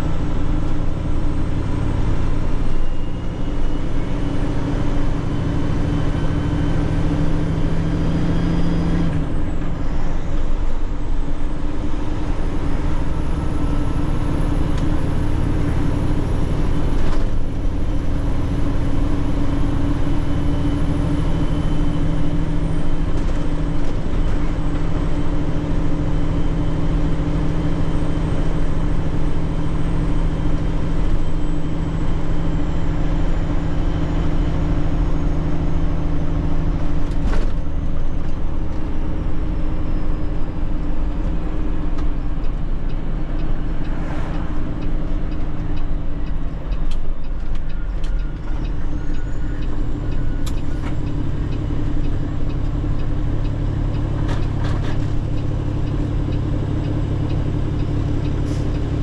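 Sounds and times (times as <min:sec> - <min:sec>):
road noise: 0:00.0 - 0:59.0
truck diesel engine drone: 0:00.0 - 0:59.0.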